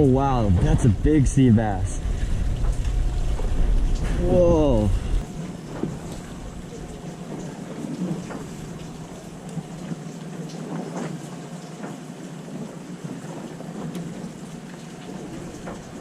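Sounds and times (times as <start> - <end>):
boat engine hum: 0.0 - 16.0
water splashing: 0.0 - 16.0.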